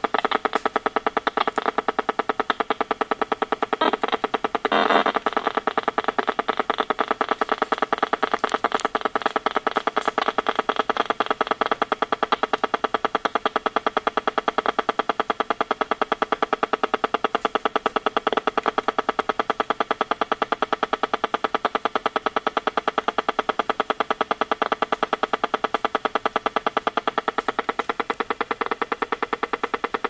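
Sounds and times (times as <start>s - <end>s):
buzzing clicks from meter: 0.0s - 30.0s.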